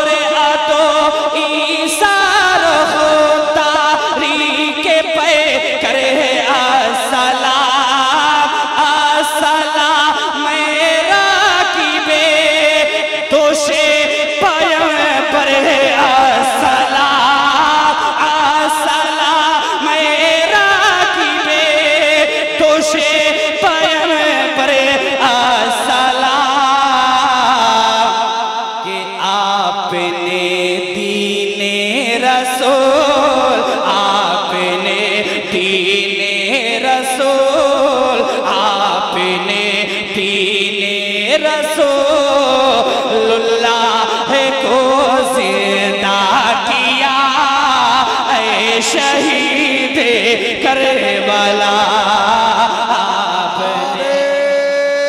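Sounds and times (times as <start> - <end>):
man chanting through pa: 0.0 - 55.0
man singing into a microphone: 0.0 - 55.0.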